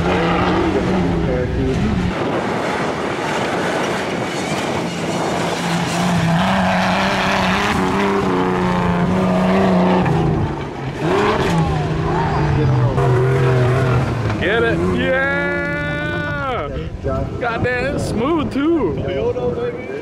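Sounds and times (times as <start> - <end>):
race engine revving: 0.0 - 16.6.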